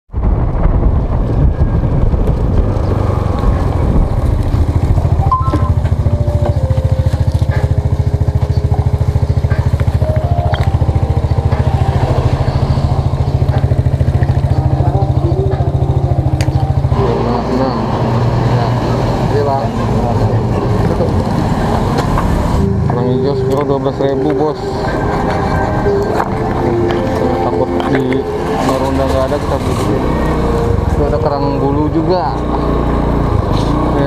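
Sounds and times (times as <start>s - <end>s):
motorcycle engine: 0.2s - 34.0s.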